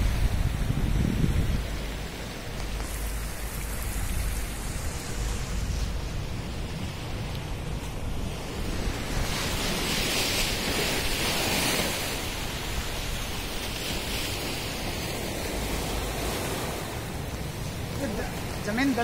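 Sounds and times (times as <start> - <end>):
sea surf on rocky beach: 0.0 - 19.0
wind buffeting microphone: 0.0 - 19.0.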